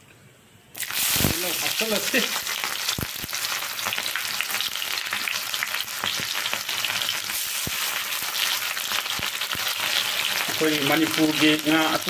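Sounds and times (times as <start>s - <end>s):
food sizzling in hot oil: 0.8s - 12.0s.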